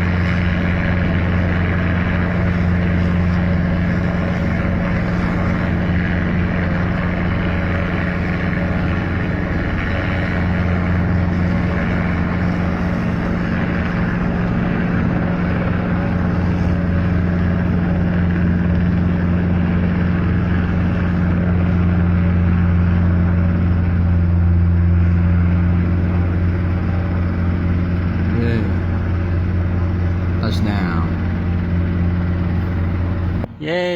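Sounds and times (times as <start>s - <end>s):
helicopter rotor and engine drone: 0.0s - 33.9s.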